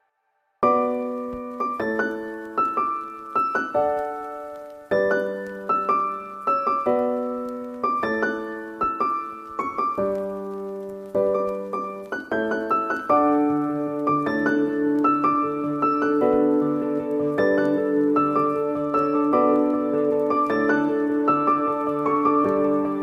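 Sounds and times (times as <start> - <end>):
soft piano music: 0.6 - 23.0.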